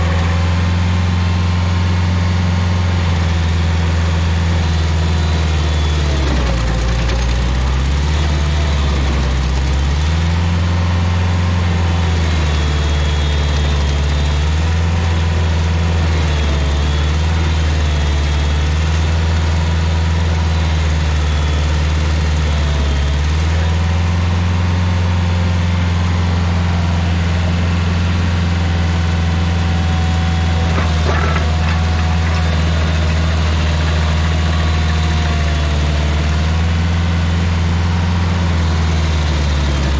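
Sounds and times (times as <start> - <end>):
stump grinder engine running: 0.0 - 39.9.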